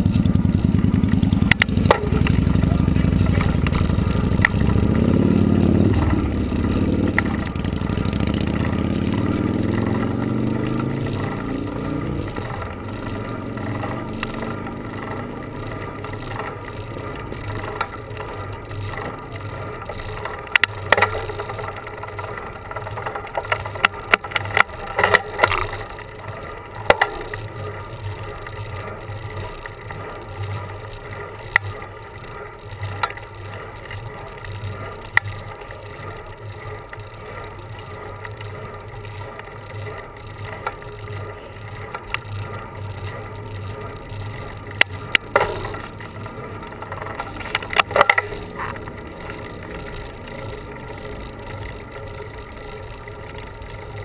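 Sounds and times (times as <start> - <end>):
motor vehicle passing: 0.0 - 31.5, 33.0 - 54.0
bicycle clicks and rattles: 0.0 - 54.0
bicycle riding hum: 0.0 - 54.0.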